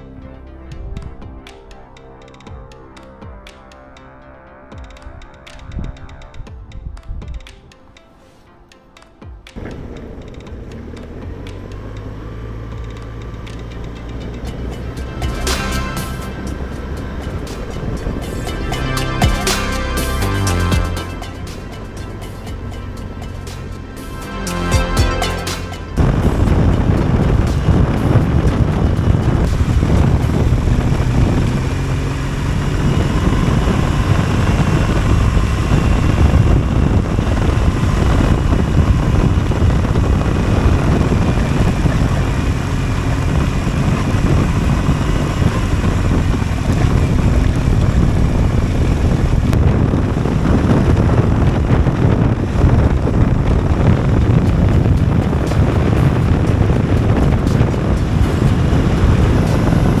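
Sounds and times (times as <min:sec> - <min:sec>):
wind rushing over microphone: 0:09.6 - 0:24.9, 0:25.7 - 1:00.0
motorcycle engine running: 0:09.6 - 1:00.0.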